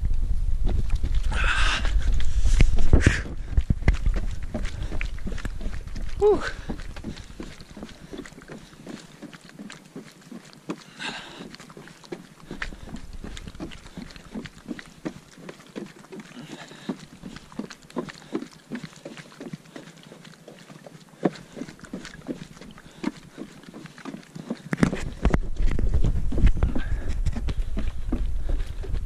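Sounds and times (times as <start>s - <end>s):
footsteps on a trail: 0.2s - 29.0s
heavy breathing: 1.2s - 25.3s, 26.3s - 29.0s.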